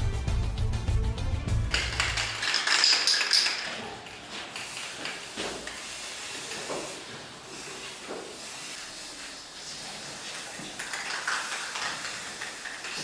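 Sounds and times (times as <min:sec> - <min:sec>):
spray paint can hissing: 0:01.7 - 0:13.0.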